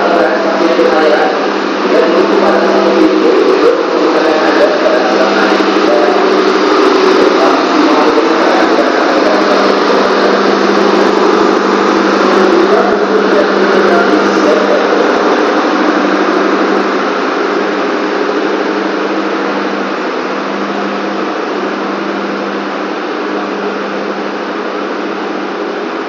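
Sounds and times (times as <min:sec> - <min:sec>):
train machine drone: 0:00.0 - 0:26.0.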